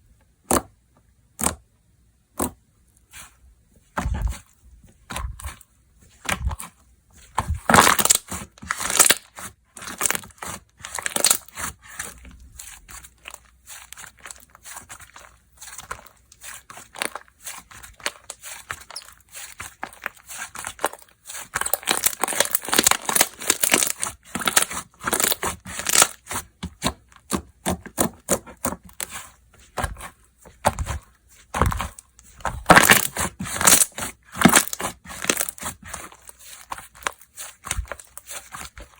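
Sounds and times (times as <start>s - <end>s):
slime and packaging crinkling: 5.1s - 38.9s.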